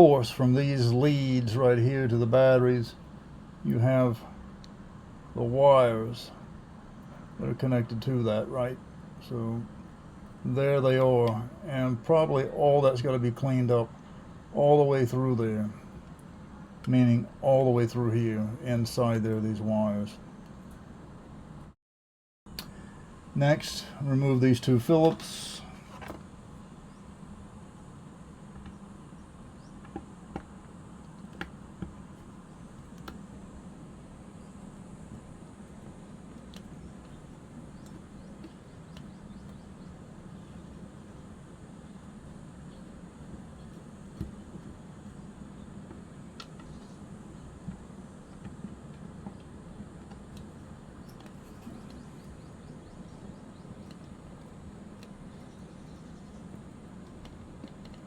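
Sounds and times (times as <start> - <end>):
steady low hum: 0.0 - 21.8, 22.5 - 58.0.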